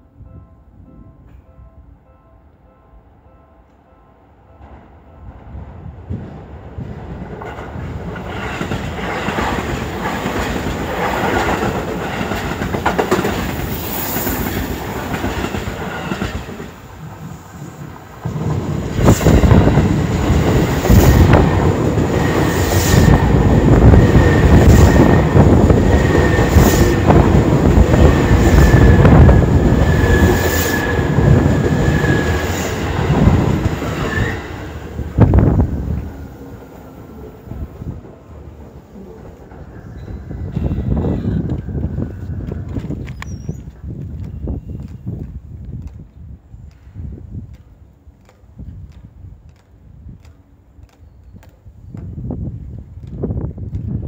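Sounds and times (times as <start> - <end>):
electric train passing: 0.0 - 54.0.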